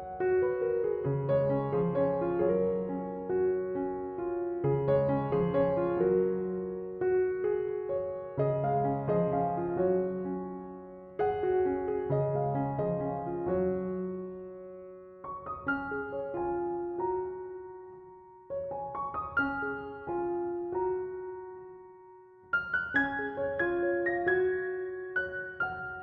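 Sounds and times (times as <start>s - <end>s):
slow piano music: 0.0s - 26.0s.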